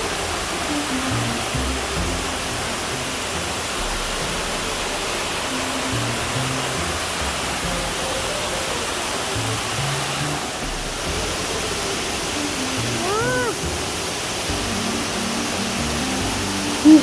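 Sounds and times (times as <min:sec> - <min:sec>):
background music low notes: 0:00.0 - 0:17.0
waterfall crashing: 0:00.0 - 0:17.0.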